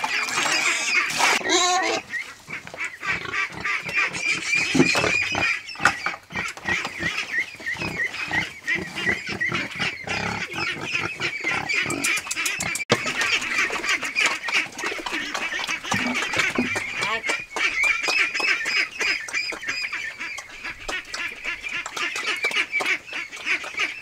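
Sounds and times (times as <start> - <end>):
pigs calling: 0.0 - 24.0.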